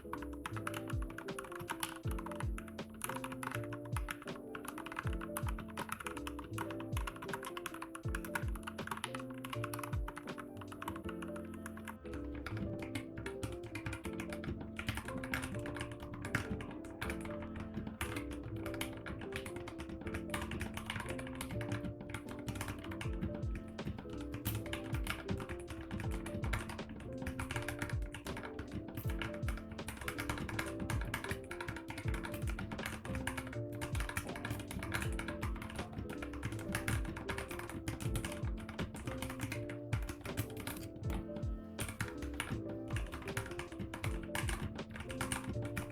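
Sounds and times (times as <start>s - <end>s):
lofi background music: 0.0s - 45.9s
typing on mechanical keyboard: 0.0s - 45.9s.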